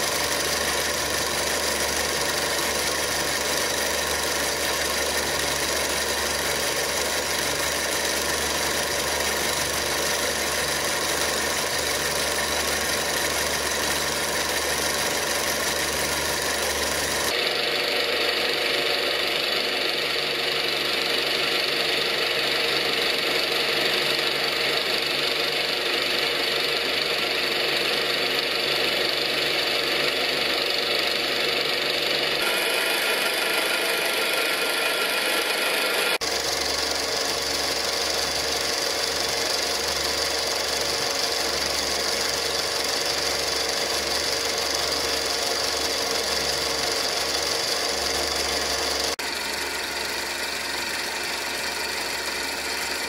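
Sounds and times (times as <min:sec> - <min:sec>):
film projector clattering: 0:00.0 - 0:53.0.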